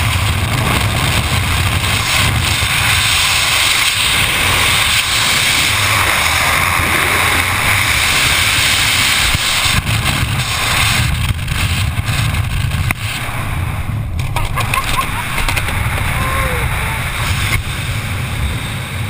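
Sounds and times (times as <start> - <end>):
wind roaring on microphone: 0.0 - 19.0.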